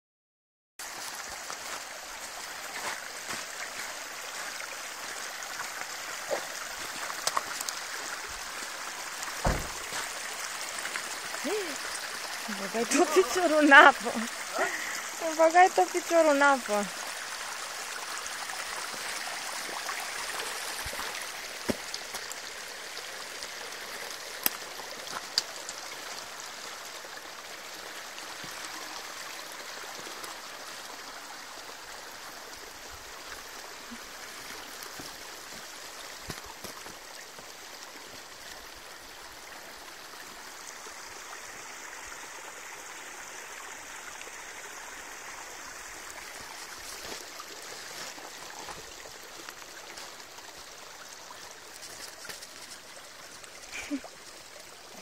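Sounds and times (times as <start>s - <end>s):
stream of water rushing: 0.8s - 55.0s.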